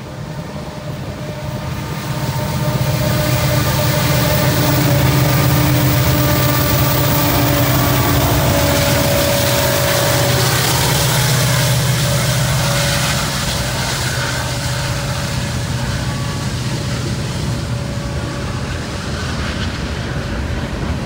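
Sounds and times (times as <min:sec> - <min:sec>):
diesel locomotives passing: 0:00.0 - 0:21.0.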